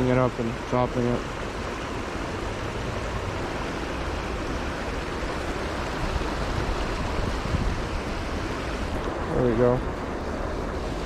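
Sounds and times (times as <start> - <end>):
water rushing over a spillway: 0.0 - 11.0.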